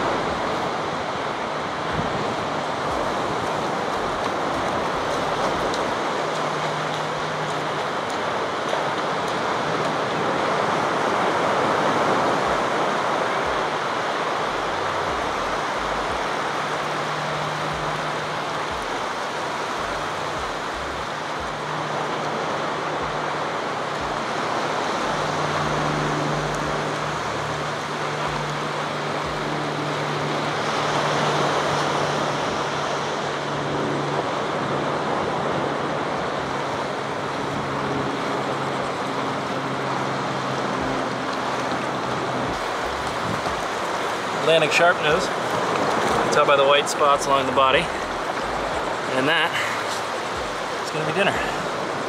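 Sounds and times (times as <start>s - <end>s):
low thumps of waves: 0.0s - 52.0s
ocean surf breaking: 0.0s - 52.0s.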